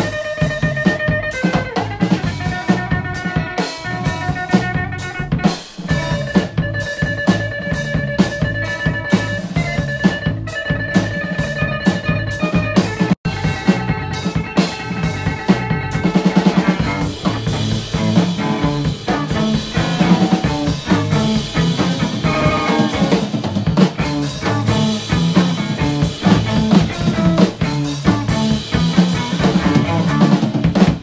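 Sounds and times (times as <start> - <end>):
bass guitar: 0.0 - 31.0
drum kit: 0.0 - 31.0
electric guitar: 0.0 - 31.0.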